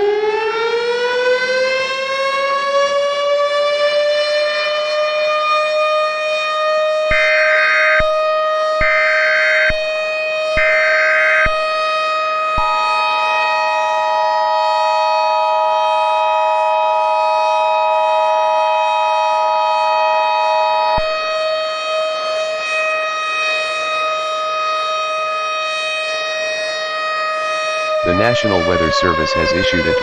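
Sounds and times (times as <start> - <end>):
steady siren tone: 0.0 - 30.0.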